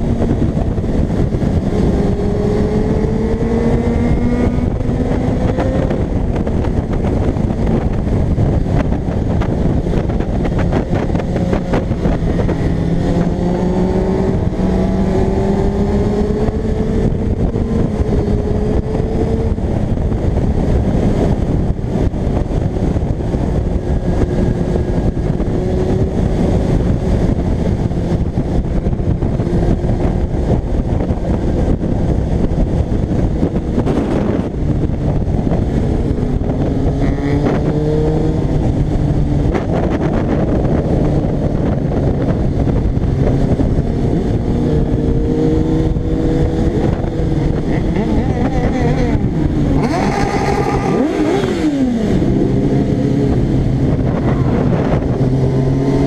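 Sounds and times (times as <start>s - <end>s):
motorcycle engine running: 0.0s - 56.0s
wind on microphone: 0.0s - 56.0s.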